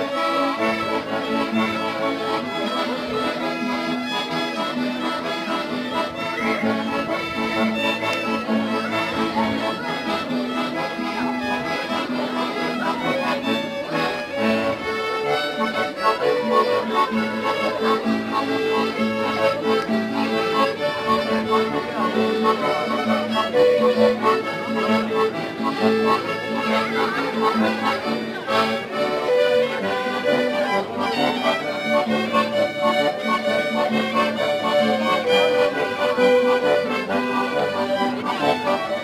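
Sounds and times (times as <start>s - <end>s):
guitar strumming: 0.0s - 39.0s
live folk band playing: 0.0s - 39.0s.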